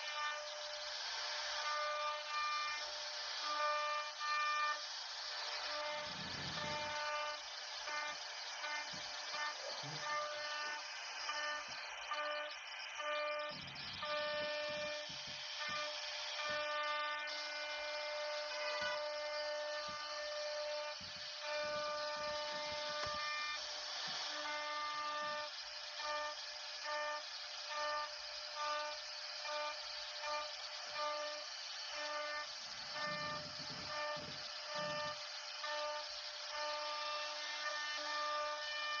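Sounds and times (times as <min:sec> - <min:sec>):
router motors whining: 0:00.0 - 0:39.0
steady hiss: 0:00.0 - 0:39.0.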